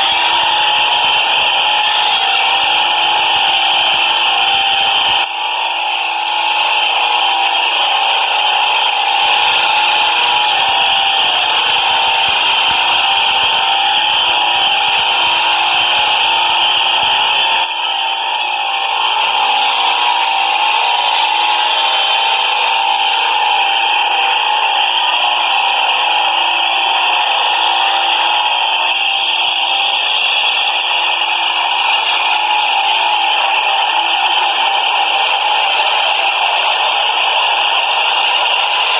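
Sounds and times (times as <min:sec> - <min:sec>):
train whining with high hiss: 0:00.0 - 0:38.9.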